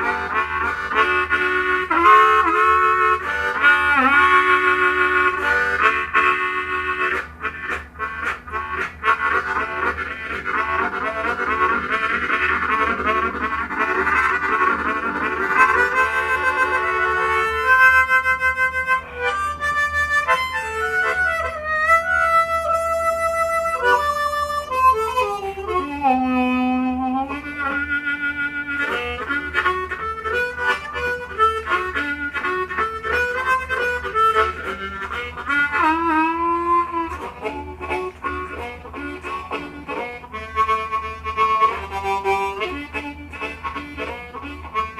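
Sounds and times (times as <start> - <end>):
blues harmonica solo: 0.0 - 44.9.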